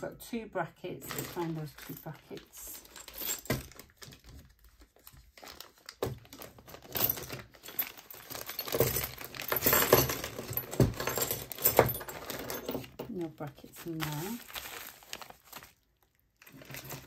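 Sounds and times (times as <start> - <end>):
packaging rustling: 1.2 - 13.0, 13.6 - 17.0.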